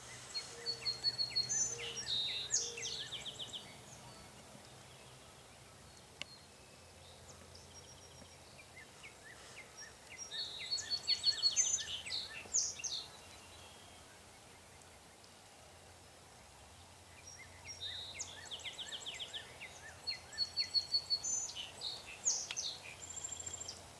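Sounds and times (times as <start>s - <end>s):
songbirds chirping and trilling: 0.0s - 16.0s, 16.6s - 23.9s.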